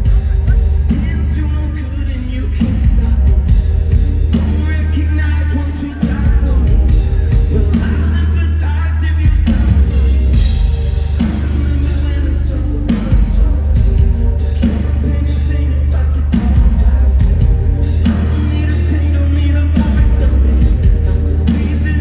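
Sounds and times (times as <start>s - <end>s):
live metal band playing: 0.0s - 22.0s
sung vocals: 0.0s - 22.0s.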